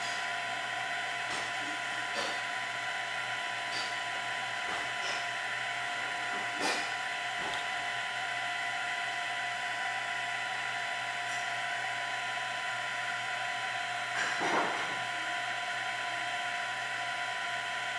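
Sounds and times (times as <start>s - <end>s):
printer mechanical whine: 0.0s - 17.9s.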